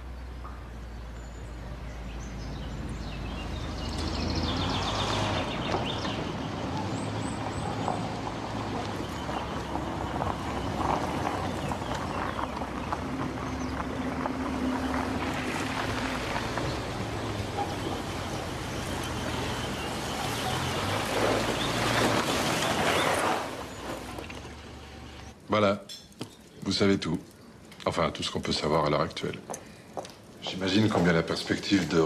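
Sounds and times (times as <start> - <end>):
birds chirping: 0.0 - 32.0
tyres rolling: 3.4 - 32.0.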